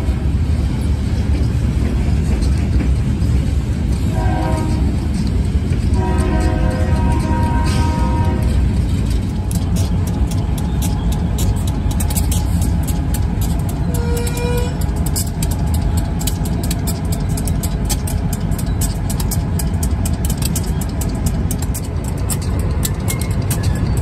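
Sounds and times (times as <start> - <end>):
locomotive engine rumble: 0.0 - 24.0
wheels clicking on rails: 0.0 - 24.0.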